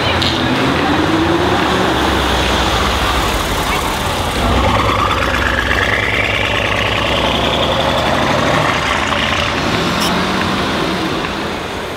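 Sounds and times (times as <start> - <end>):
loud car engine driving away: 0.0 - 11.9.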